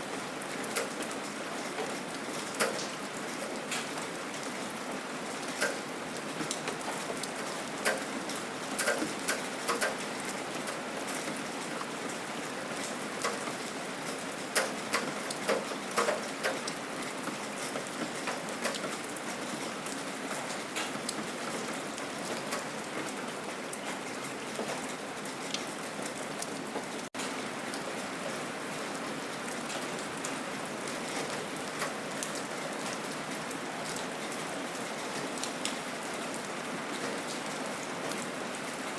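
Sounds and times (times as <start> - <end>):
gentle rain hiss: 0.0 - 38.9
raindrops ticking on a surface: 0.0 - 38.9.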